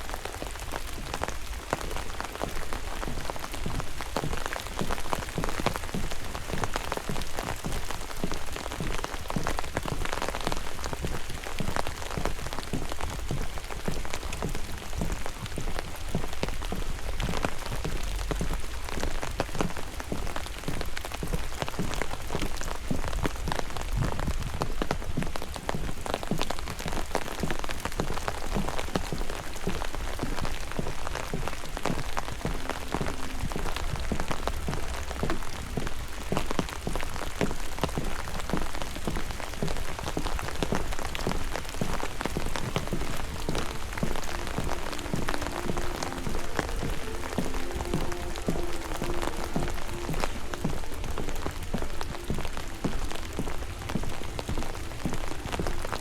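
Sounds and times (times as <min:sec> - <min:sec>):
faint music: 0:00.0 - 0:56.0
rain pattering: 0:00.0 - 0:56.0.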